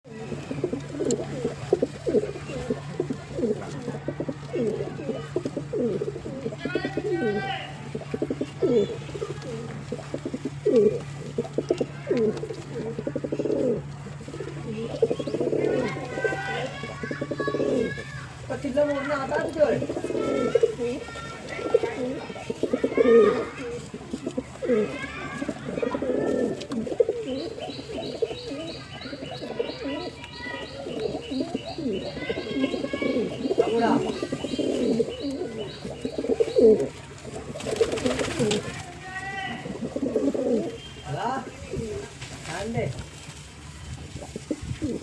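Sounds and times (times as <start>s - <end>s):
pigeon cooing: 0.1s - 38.9s, 39.5s - 40.8s, 44.2s - 45.0s.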